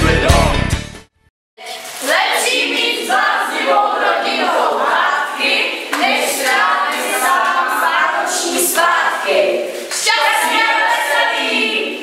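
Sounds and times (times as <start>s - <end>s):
young voices singing unaccompanied: 1.6s - 12.0s.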